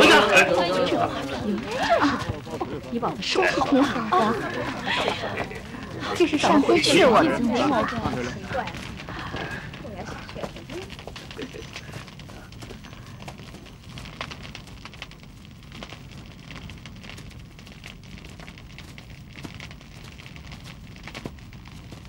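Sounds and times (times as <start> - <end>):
low rumble of fire: 0.0 - 22.0
wood fire crackling and popping: 0.0 - 22.0.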